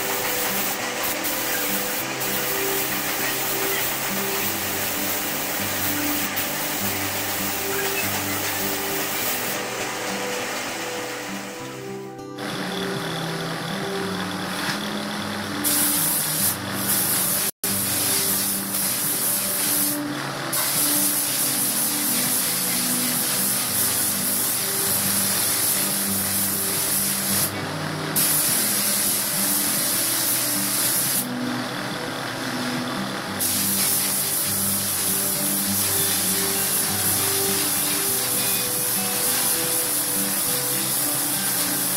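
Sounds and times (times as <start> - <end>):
paint spray gun hissing: 0.0 - 12.8, 15.6 - 27.6, 28.2 - 31.4, 33.3 - 41.9
background music with bass: 0.0 - 41.9.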